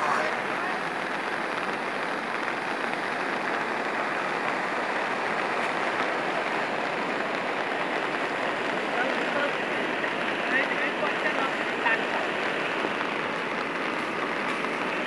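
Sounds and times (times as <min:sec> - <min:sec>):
rain falling: 0:00.0 - 0:15.0
river rushing: 0:00.0 - 0:15.0.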